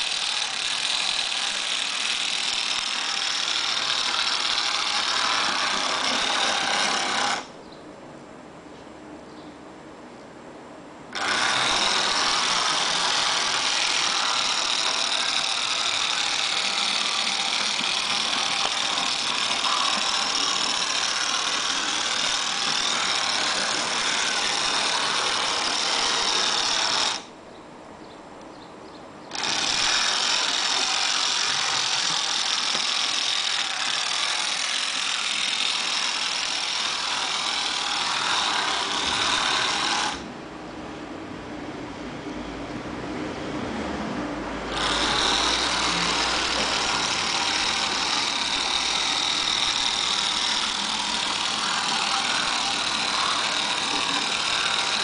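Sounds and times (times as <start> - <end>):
model tram motor whirring: 0.0 - 7.5, 11.1 - 27.3, 29.3 - 40.3, 44.6 - 55.0.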